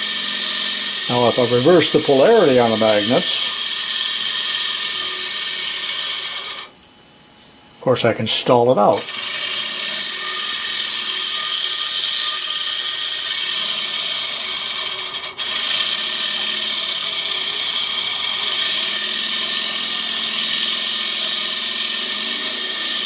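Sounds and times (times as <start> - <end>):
brushes rubbing on commutator: 0.0 - 6.7, 8.3 - 23.0
small electric motor whirring: 0.0 - 6.8, 8.8 - 23.0.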